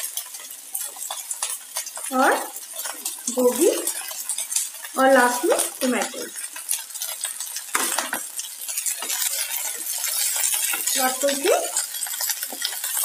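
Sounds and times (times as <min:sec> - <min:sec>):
vegetables sizzling in hot oil: 0:00.0 - 0:13.0
spatula scraping pan: 0:00.1 - 0:13.0.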